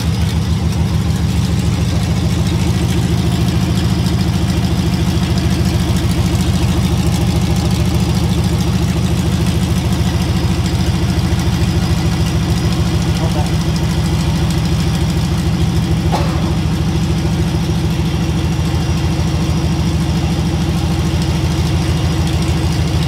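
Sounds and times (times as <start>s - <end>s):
loud engine exhaust pulses idling: 0.0s - 23.0s.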